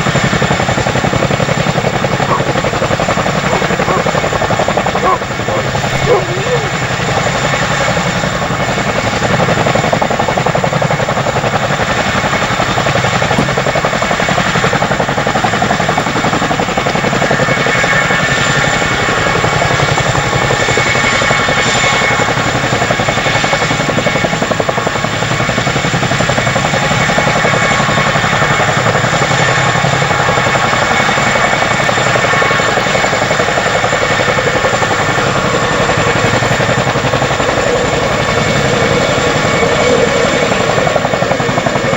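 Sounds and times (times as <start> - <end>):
helicopter rotor blades beating: 0.0 - 41.9.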